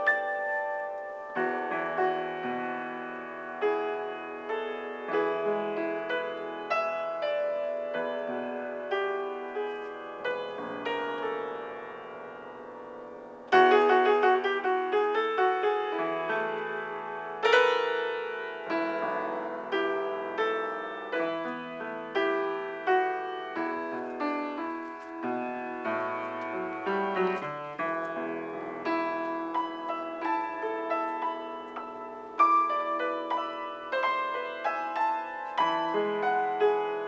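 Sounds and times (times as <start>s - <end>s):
piano improvisation: 0.0s - 37.0s.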